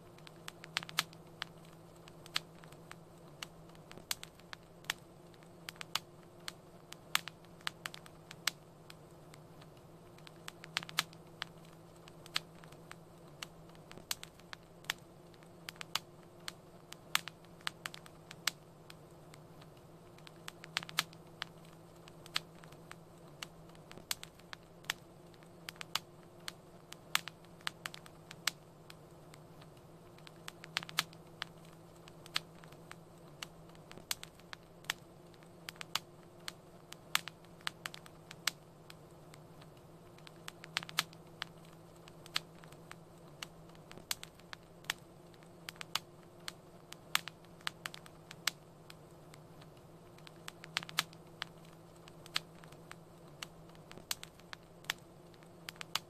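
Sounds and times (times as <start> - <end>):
low hiss of burning: 0.0 - 56.0
wood fire popping and snapping: 0.0 - 56.0.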